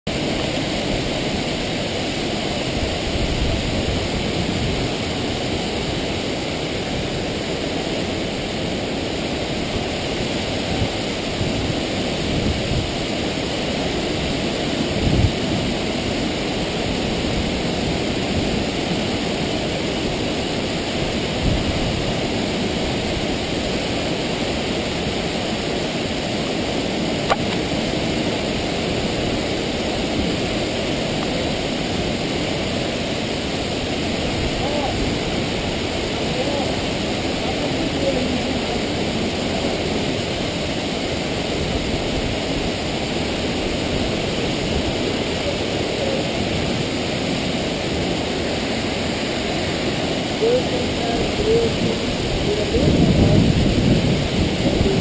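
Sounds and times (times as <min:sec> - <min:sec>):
waterfall rushing: 0:00.1 - 0:55.0.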